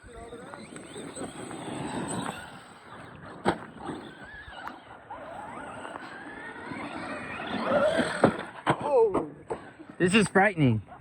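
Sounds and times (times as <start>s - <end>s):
rc truck motors whining: 0.0s - 10.0s.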